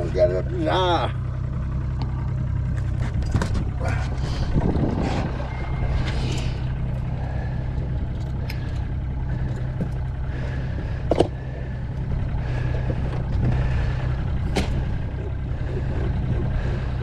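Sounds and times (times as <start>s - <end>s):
outboard motor idling: 0.0s - 17.0s.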